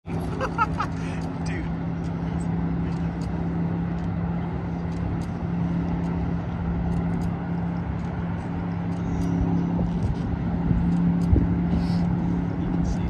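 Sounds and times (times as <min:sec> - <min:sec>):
city traffic rumble: 0:00.0 - 0:13.0
low engine drone: 0:00.0 - 0:13.0.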